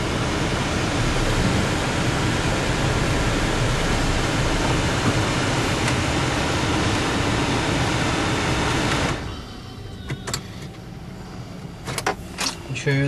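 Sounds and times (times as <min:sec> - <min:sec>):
wind and road noise in car: 0:00.0 - 0:13.0.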